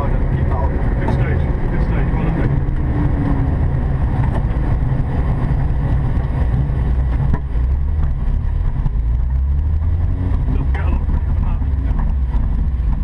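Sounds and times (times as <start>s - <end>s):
car engine running low: 0.0s - 13.0s.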